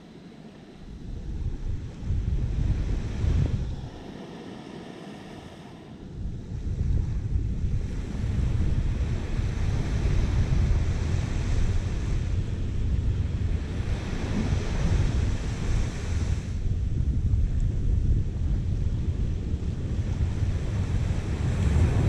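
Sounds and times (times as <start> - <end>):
ocean surf washing on sand: 0.0 - 22.0
wind rumbling on microphone: 0.0 - 22.0.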